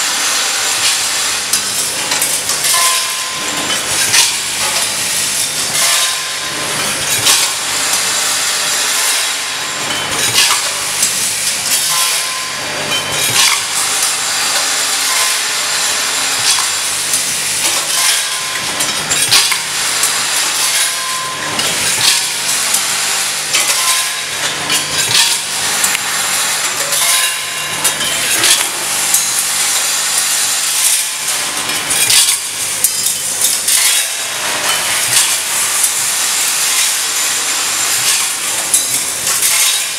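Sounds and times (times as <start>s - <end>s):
rattling hiss of small parts: 0.0s - 39.9s.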